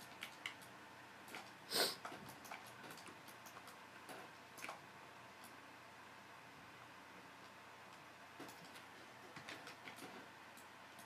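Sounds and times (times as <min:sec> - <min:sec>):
computer mouse clicks: 0:00.0 - 0:05.6, 0:07.4 - 0:11.0.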